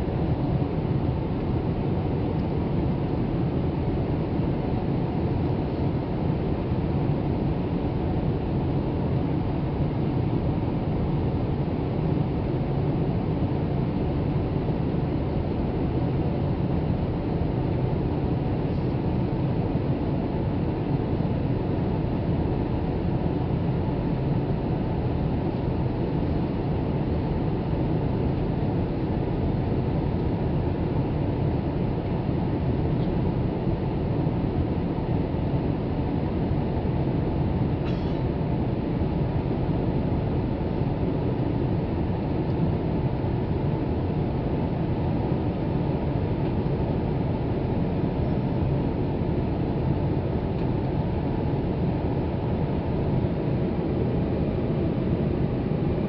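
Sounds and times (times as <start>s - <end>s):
airplane cabin engine and airflow noise: 0.0s - 56.0s.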